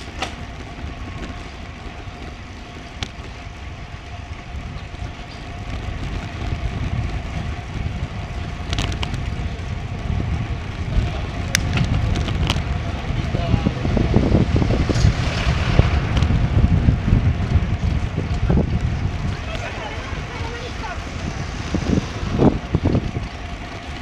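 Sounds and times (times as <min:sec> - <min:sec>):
bicycle clicks and rattles: 0:00.0 - 0:24.0
wind on microphone: 0:00.0 - 0:24.0.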